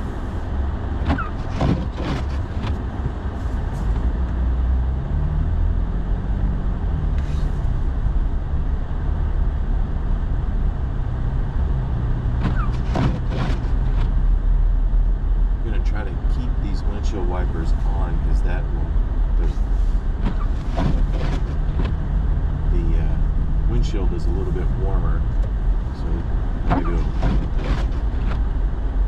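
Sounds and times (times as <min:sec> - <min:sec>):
road noise: 0:00.0 - 0:29.0
truck engine rumble: 0:00.0 - 0:29.0.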